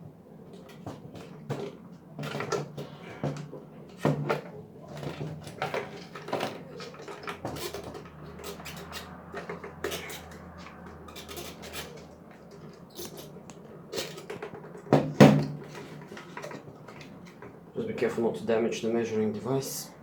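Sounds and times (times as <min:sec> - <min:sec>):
plastic pump unit clicking and knocking: 0:00.5 - 0:17.6.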